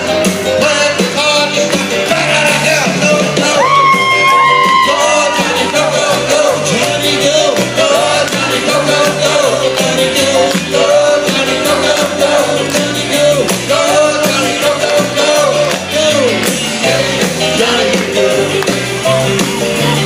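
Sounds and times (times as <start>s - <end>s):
band playing rock and roll: 0.0s - 20.0s
bass line: 0.0s - 20.0s
bending lead guitar melody: 0.0s - 20.0s.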